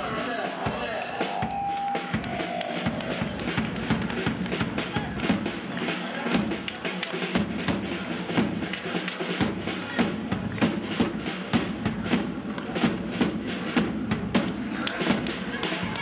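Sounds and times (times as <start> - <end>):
sharp drum strokes: 0.0 - 16.0.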